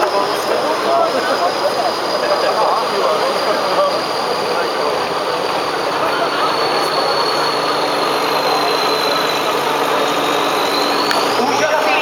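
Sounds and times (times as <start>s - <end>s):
truck diesel engine running: 0.0s - 12.0s
thin high whine: 0.8s - 12.0s.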